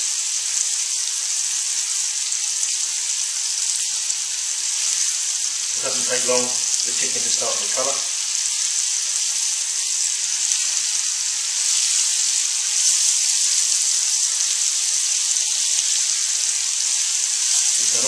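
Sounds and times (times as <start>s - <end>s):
chicken sizzling in a frying pan: 0.0s - 18.0s.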